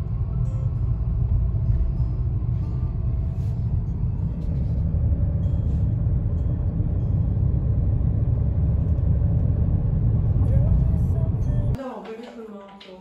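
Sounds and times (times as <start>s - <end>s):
car driving interior rumble: 0.0s - 11.8s.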